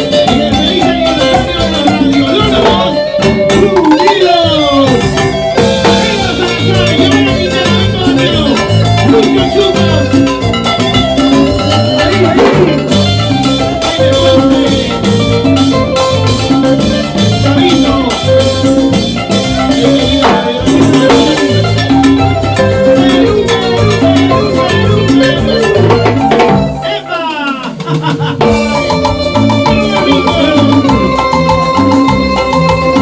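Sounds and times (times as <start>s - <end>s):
salsa band playing: 0.0s - 33.0s.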